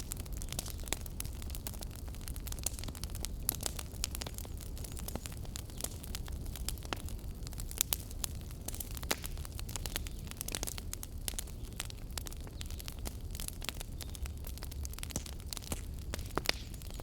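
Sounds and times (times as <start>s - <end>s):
low rumble of burning: 0.0s - 17.0s
wood fire crackling and popping: 0.0s - 17.0s.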